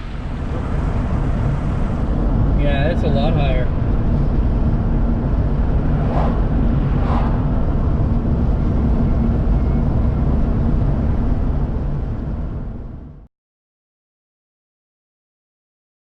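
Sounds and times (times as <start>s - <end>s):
car engine and road rumble: 0.0s - 13.3s.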